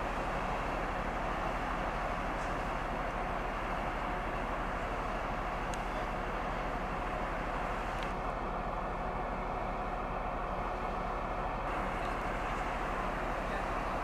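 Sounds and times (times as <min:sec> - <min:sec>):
passenger train running: 0:00.0 - 0:14.0.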